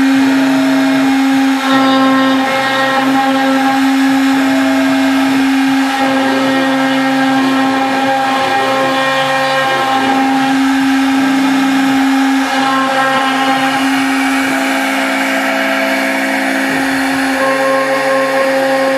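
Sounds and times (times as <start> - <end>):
low machine tones: 0.0 - 18.9
router spindle whine: 0.0 - 18.9.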